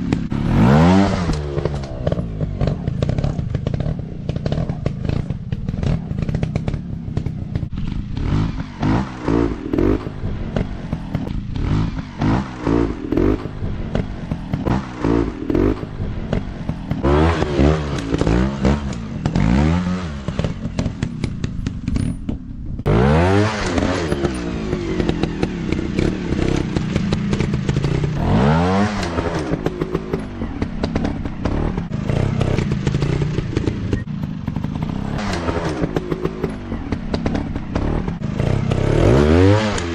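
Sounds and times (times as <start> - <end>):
dirt bike engines revving: 0.0 - 22.2, 22.8 - 39.9.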